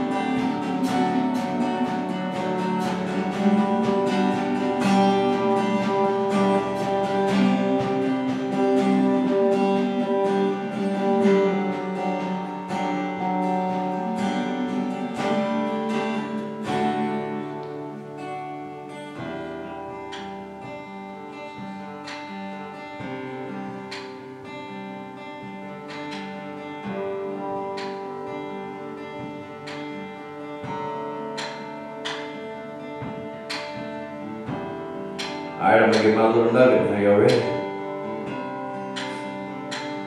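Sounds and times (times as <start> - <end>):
acoustic guitar strummed chords: 0.0 - 40.0.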